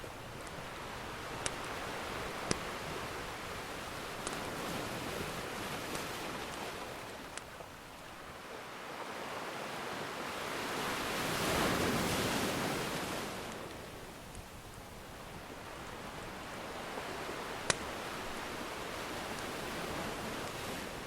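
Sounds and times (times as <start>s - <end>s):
faint fire crackles: 0.0s - 9.4s, 10.6s - 21.0s
steady wash of water: 0.0s - 14.2s, 14.8s - 21.0s.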